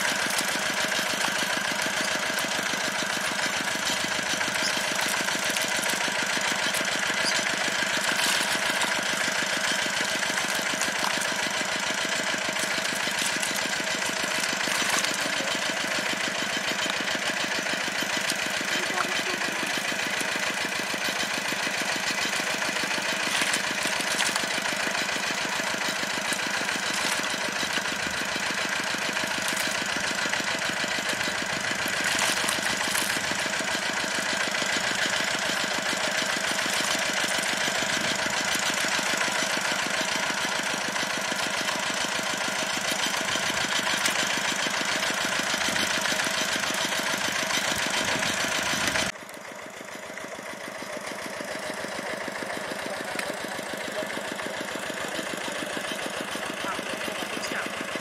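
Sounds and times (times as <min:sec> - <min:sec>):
water pump engine running: 0:00.0 - 0:58.0.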